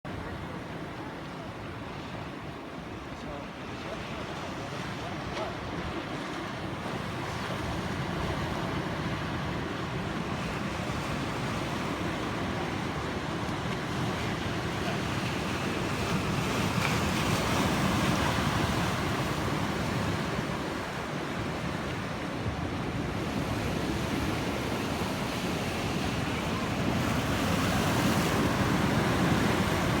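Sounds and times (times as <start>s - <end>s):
ocean waves breaking: 0.1s - 30.0s.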